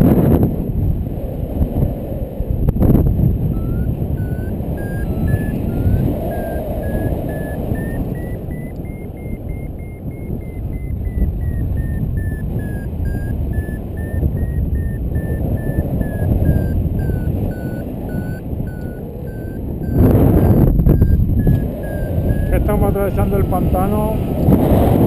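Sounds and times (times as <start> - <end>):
wind rush on microphone: 0.0 - 25.0
variometer beeping: 3.4 - 24.5.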